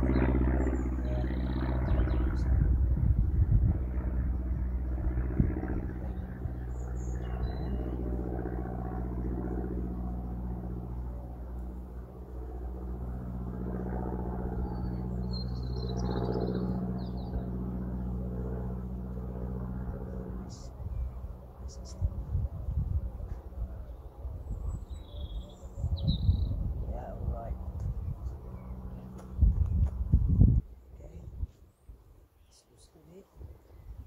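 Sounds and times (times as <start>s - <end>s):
engine droning: 0.0s - 25.8s, 26.6s - 30.5s.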